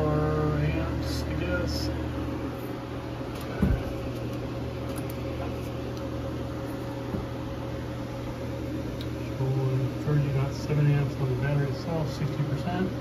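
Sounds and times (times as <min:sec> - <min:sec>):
fan whir: 0:00.0 - 0:13.0
low electrical hum: 0:00.0 - 0:13.0.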